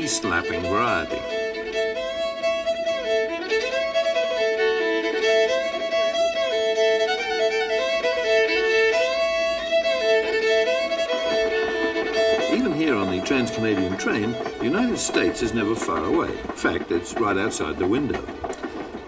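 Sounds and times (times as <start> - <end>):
fiddle melody with drone: 0.0 - 18.9.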